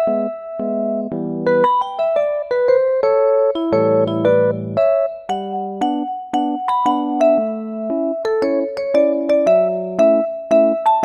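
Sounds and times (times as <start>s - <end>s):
electric piano melody: 0.0s - 11.0s.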